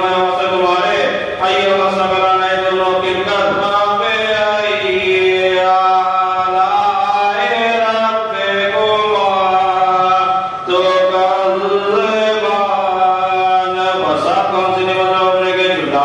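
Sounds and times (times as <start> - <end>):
man chanting into microphone: 0.0 - 16.0.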